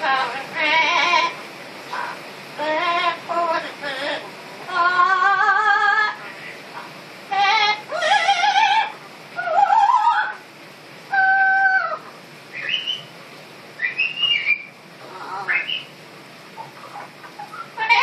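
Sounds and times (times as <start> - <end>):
parrot singing: 0.0 - 6.2, 7.3 - 10.4, 11.1 - 13.1, 13.8 - 15.9, 16.6 - 18.0
rain hiss: 0.0 - 18.0.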